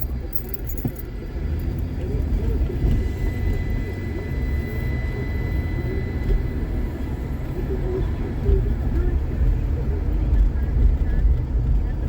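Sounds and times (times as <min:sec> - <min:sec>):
car engine rumble: 0:00.0 - 0:12.0
tyres on road: 0:00.0 - 0:12.0.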